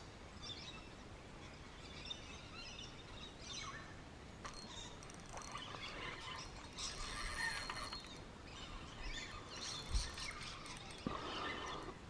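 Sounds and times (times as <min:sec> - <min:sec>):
outdoor background noise: 0:00.0 - 0:12.0
birds chirping and calling: 0:01.5 - 0:11.9.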